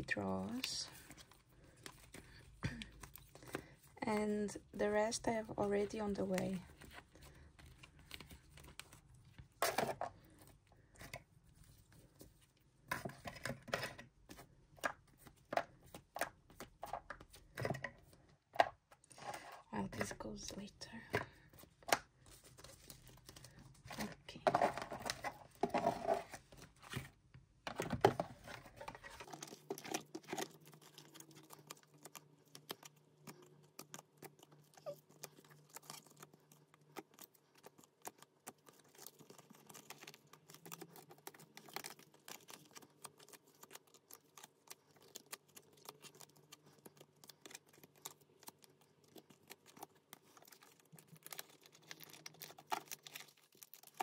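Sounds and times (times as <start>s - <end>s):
plastic sleeves rustling: 0.0s - 54.0s.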